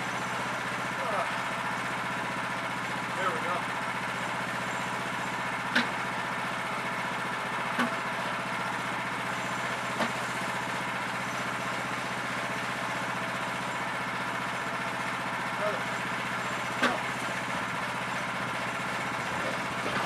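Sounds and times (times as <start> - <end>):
gas engine idling: 0.0 - 20.0.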